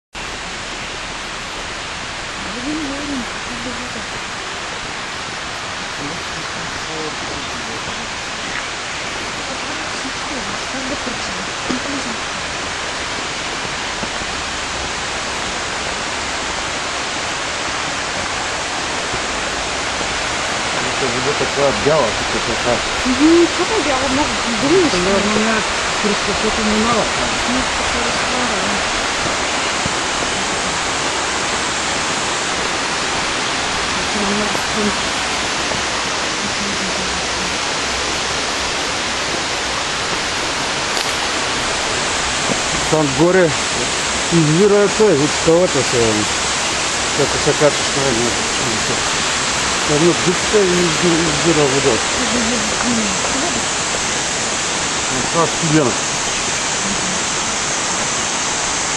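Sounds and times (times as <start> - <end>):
waterfall rushing: 0.2 - 58.9.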